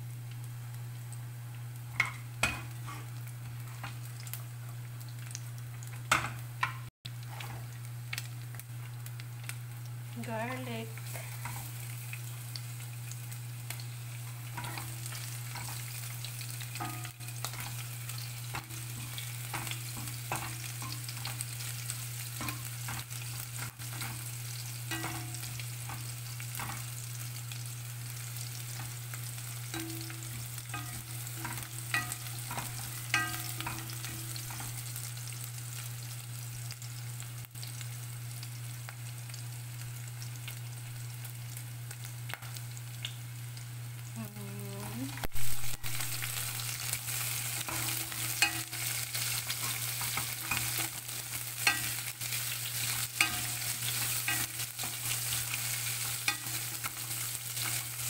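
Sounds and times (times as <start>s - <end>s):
meat sizzling in oil: 0.0s - 58.0s.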